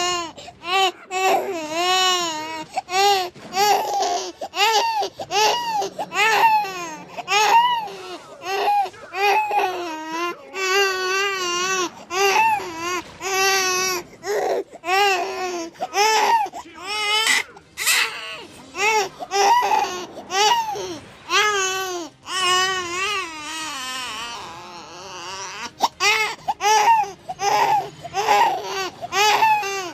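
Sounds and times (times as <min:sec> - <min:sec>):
baby crying: 0:00.0 - 0:29.9.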